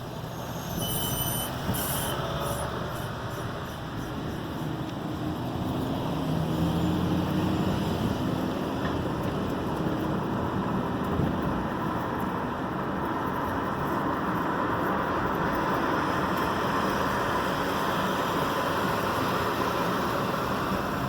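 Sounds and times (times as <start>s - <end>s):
car and road traffic noise: 0.0s - 21.0s.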